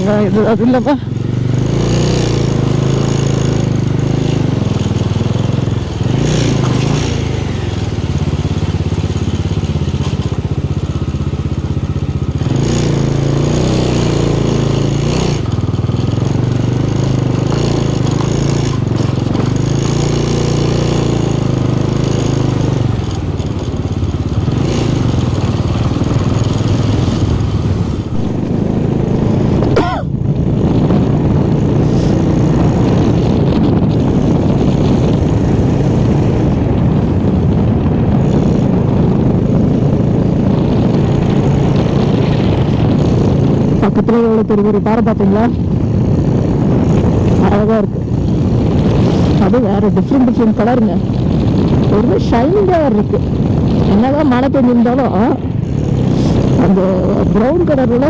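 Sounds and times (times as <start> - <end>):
motorcycle engine riding: 0.0 - 58.0.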